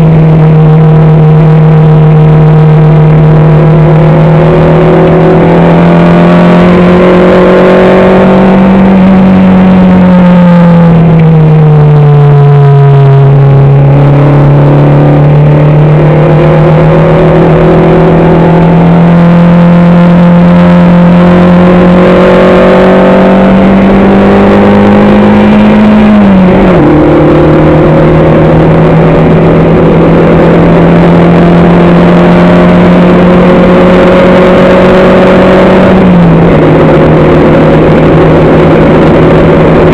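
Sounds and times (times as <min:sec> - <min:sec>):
race car engine at high load: 0:00.0 - 0:39.9.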